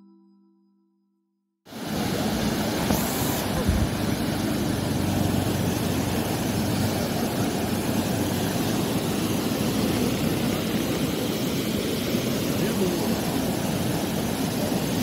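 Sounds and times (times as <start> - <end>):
river water rushing over a drop: 1.7 - 15.0.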